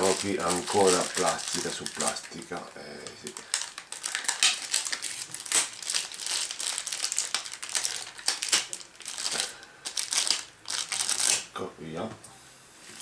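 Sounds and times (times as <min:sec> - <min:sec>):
plastic wrapping crinkling: 0:00.0 - 0:11.5.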